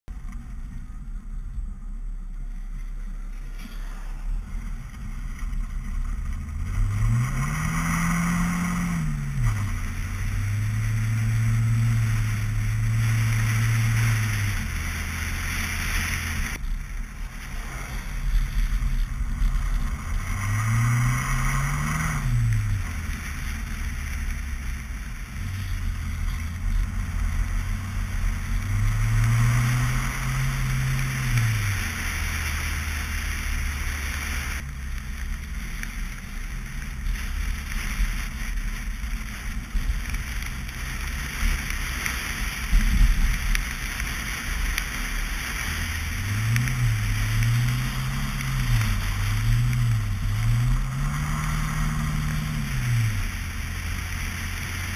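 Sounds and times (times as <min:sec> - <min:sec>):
car engine revving: 0:00.0 - 0:54.9
tyres on slushy road: 0:00.0 - 0:54.9.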